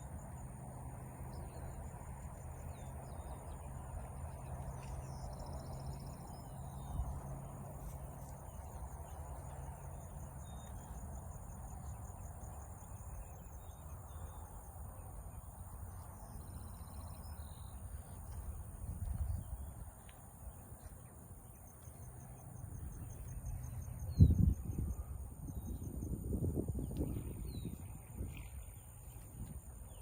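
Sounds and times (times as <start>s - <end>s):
insects trilling: 0.0s - 30.0s
steady low hum: 0.0s - 30.0s.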